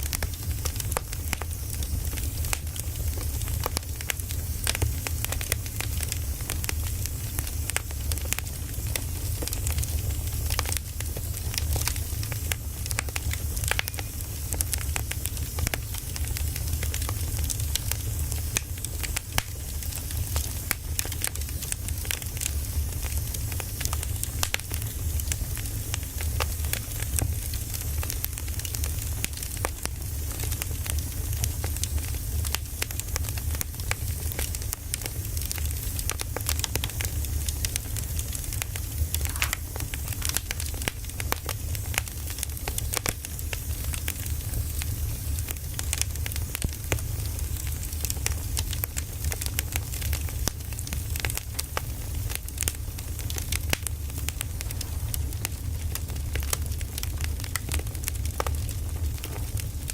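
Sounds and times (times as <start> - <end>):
firewood burning and crackling: 0.0 - 59.9.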